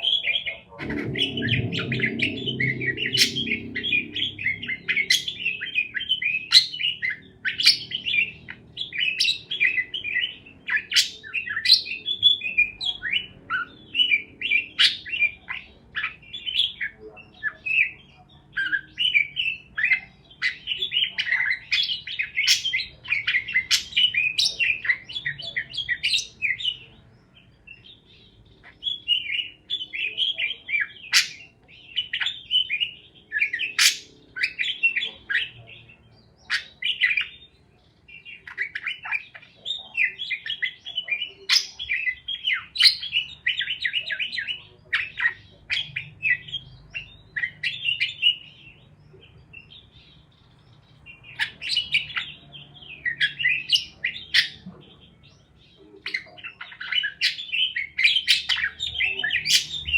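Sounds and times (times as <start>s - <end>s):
parakeets chirping: 0.0s - 59.9s.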